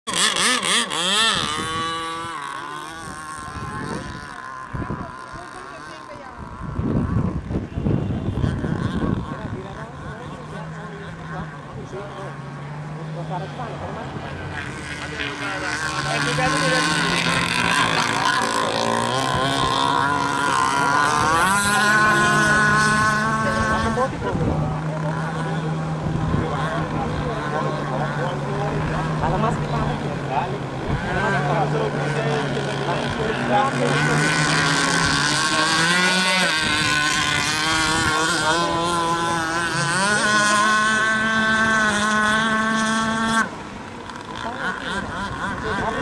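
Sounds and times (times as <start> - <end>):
rc speedboat motor whine: 0.1 - 46.0.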